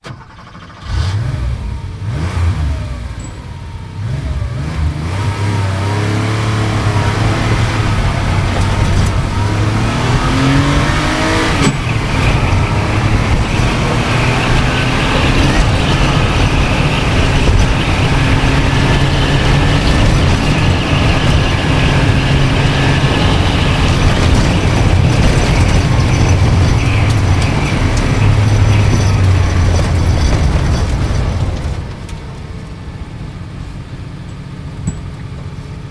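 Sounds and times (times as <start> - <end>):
sports car engine accelerating: 0.0 - 35.9.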